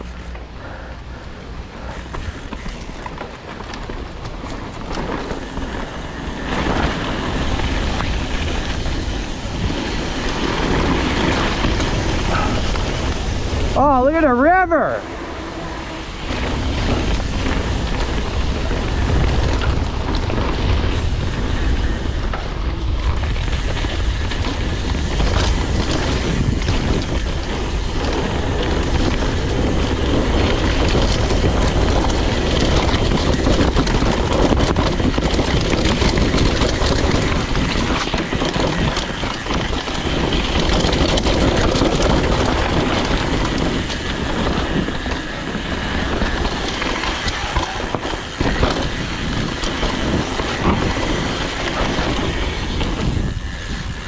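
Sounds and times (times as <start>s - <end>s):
wind buffeting microphone: 0.0s - 54.0s
tyres rolling on mud: 1.8s - 14.2s, 15.2s - 54.0s
bike knocks and rattles: 1.9s - 13.9s, 16.3s - 54.0s.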